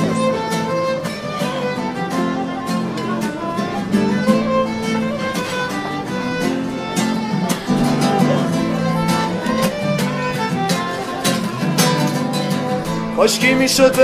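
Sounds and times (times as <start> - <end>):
plucked guitar notes: 0.0 - 14.0
violin melody: 0.0 - 14.0.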